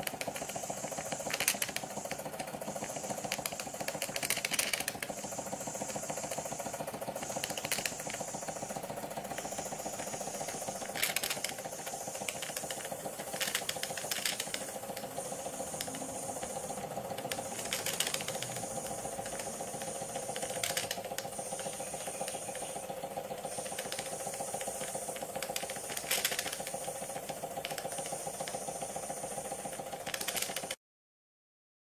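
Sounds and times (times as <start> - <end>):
model steam engine patter: 0.0 - 30.8
steam hissing: 0.0 - 30.8.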